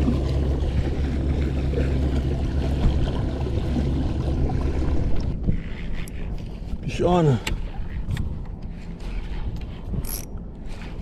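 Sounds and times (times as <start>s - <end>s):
boat motor running: 0.0s - 11.0s
water noise: 0.0s - 11.0s.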